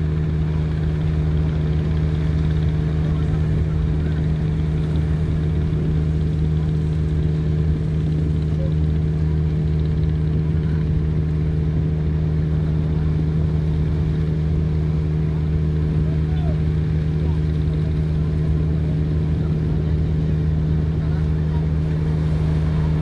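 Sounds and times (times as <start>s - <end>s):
ferry engines droning: 0.0s - 23.0s.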